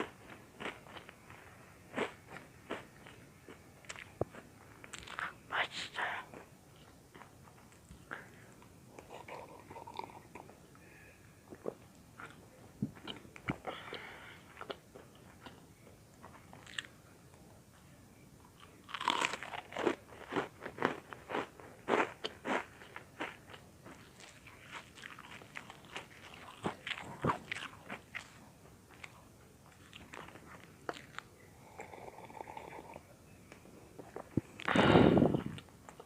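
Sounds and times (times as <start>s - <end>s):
crunching and chewing bread: 0.0s - 5.4s, 6.3s - 10.6s, 11.5s - 17.4s, 18.4s - 36.0s.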